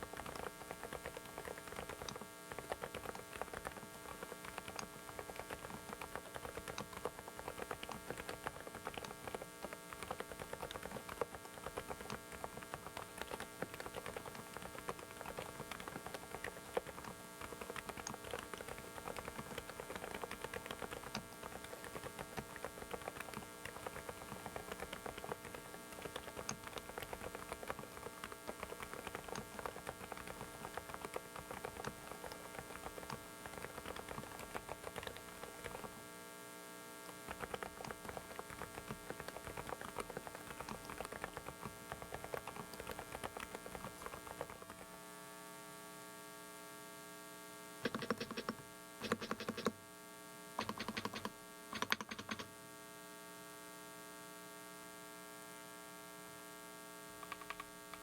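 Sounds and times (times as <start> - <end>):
mechanical keyboard typing: 0.0 - 36.1, 37.1 - 44.9, 47.8 - 49.8, 50.6 - 52.5, 57.2 - 58.0
electrical hum: 0.0 - 52.9.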